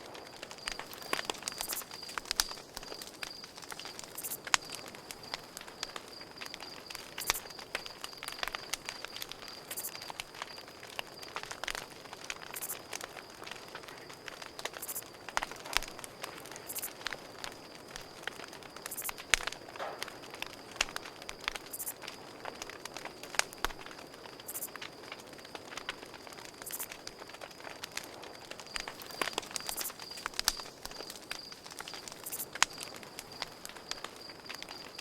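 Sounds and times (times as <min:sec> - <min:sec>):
campfire crackling and popping: 0:00.0 - 0:35.0
crickets trilling: 0:00.0 - 0:35.0.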